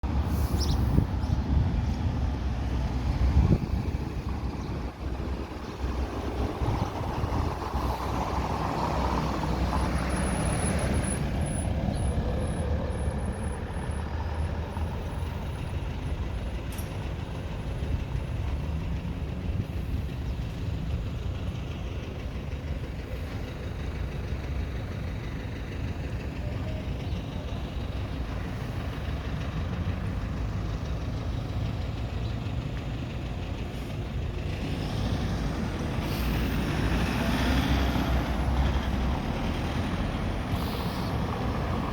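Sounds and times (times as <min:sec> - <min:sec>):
street traffic rumble: 0:00.0 - 0:41.9.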